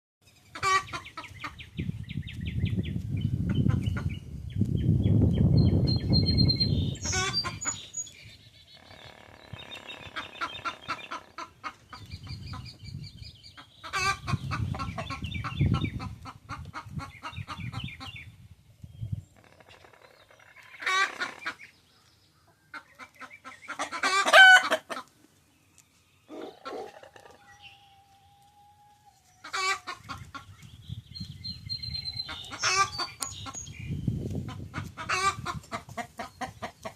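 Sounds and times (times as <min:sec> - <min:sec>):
chickens clucking: 0:00.5 - 0:01.8, 0:03.3 - 0:04.3, 0:05.8 - 0:08.0, 0:09.0 - 0:18.3, 0:19.5 - 0:21.8, 0:22.4 - 0:31.3, 0:31.9 - 0:36.9.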